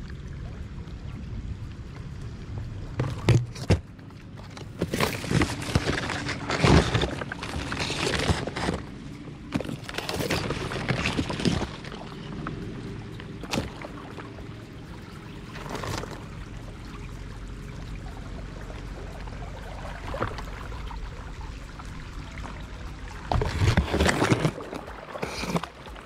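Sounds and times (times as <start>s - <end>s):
canal water rushing and splashing: 0.0s - 26.0s.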